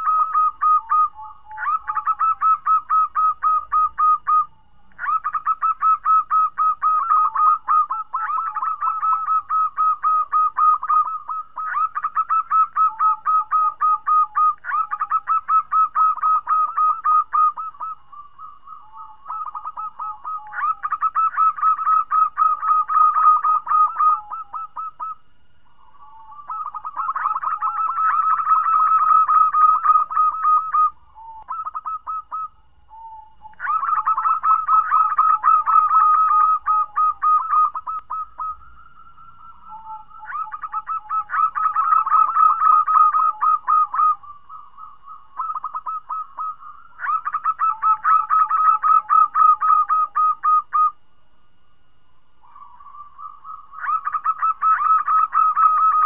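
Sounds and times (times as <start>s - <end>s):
dove calling: 0.0s - 51.0s, 52.4s - 56.0s.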